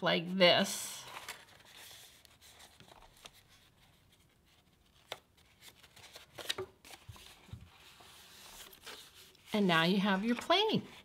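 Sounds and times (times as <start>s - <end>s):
paper rustling and creasing: 1.0s - 11.0s.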